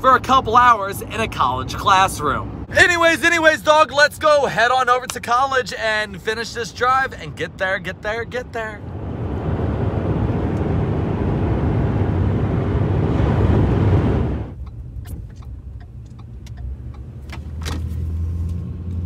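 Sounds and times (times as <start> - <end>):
low engine and tyre hum: 0.0 - 19.0
road and wind noise in vehicle: 0.0 - 19.0.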